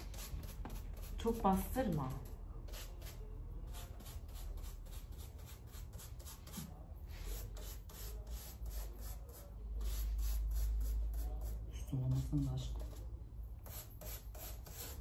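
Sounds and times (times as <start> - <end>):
paintbrush scratching on styrofoam: 0.0 - 15.0.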